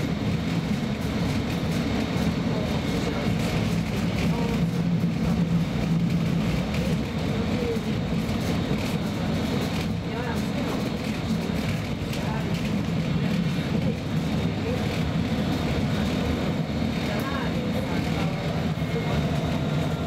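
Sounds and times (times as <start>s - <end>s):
electric train rumble inside carriage: 0.0s - 20.0s.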